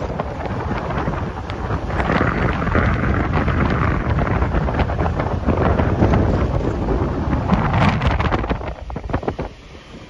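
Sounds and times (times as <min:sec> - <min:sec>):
train rumble: 0:00.0 - 0:10.0
wheels clicking on rails: 0:00.0 - 0:10.0
wind buffeting microphone: 0:00.0 - 0:10.0.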